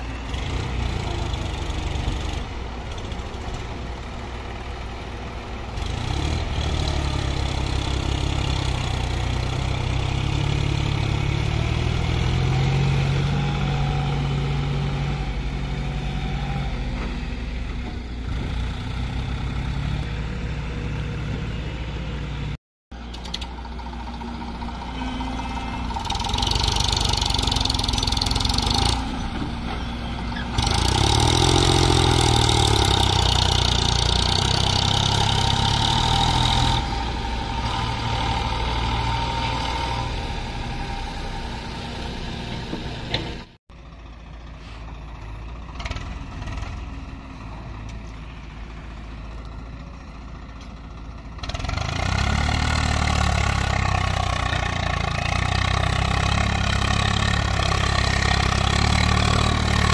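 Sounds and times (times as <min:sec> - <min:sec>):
tractor engines under load: 0:00.0 - 0:59.9.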